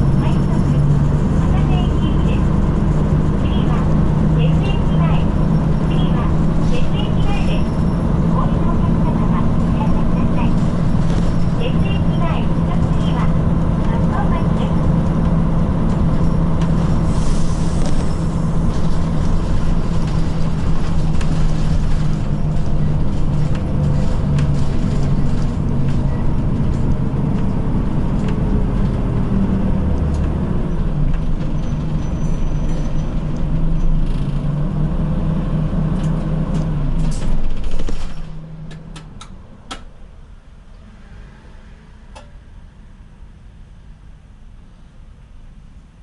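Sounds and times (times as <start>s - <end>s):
bus engine drone: 0.0s - 46.0s
road noise: 0.0s - 46.0s.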